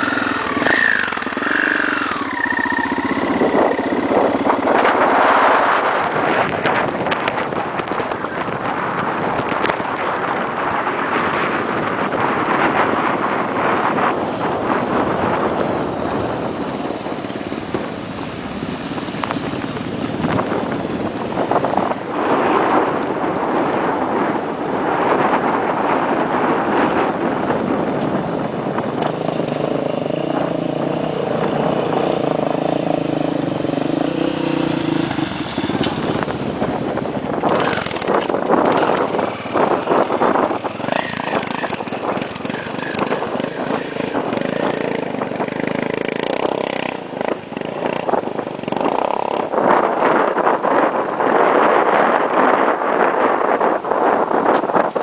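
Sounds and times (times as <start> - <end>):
motorcycle engines running: 0.0 - 55.0
wind buffeting microphone: 0.0 - 55.0.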